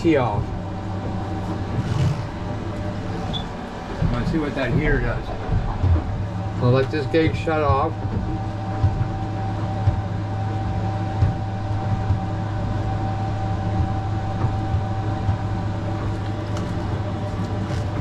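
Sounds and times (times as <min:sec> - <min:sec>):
hull and water noise: 0:00.0 - 0:18.0
outboard motor drone: 0:00.0 - 0:18.0
thin high whine: 0:00.0 - 0:18.0.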